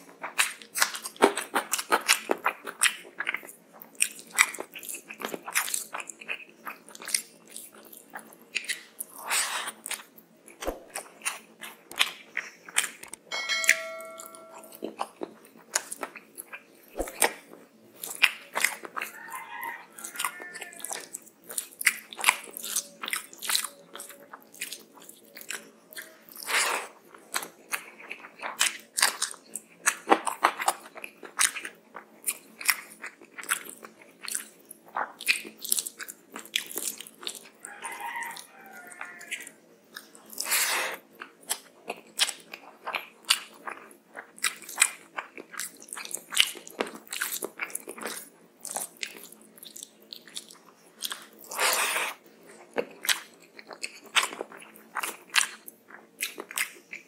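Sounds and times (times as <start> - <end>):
person chewing food: 0.0 - 13.2, 14.7 - 57.0.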